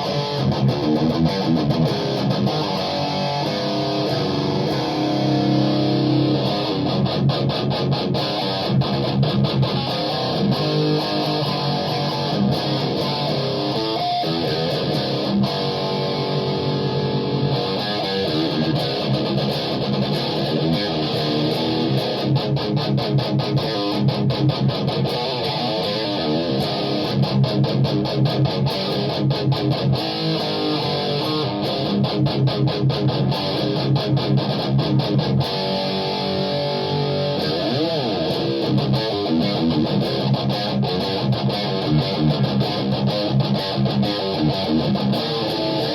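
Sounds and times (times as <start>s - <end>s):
electric guitar heavy riffs: 0.0s - 45.9s.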